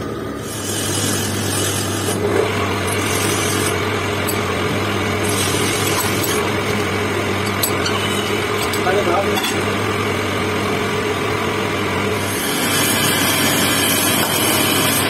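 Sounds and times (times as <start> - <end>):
lathe motor running: 0.0 - 15.0.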